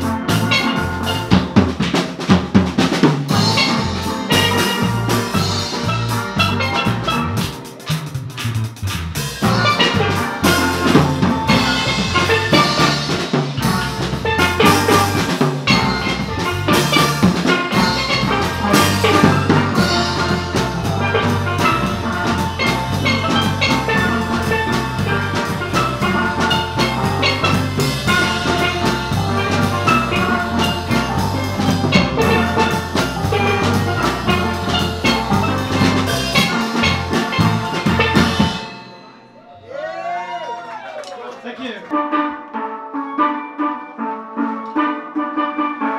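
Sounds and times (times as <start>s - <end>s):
electric bass guitar: 0.0s - 38.6s
steelpans struck with mallets: 0.0s - 39.4s
drum kit with cymbals: 0.0s - 39.5s.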